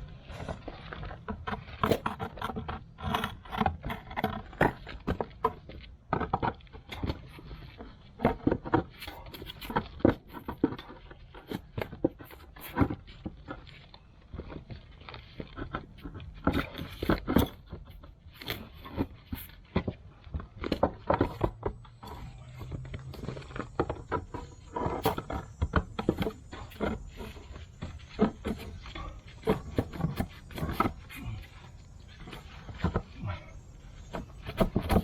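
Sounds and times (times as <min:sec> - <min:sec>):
heavy stone tread knocking and scraping: 0:00.0 - 0:35.0.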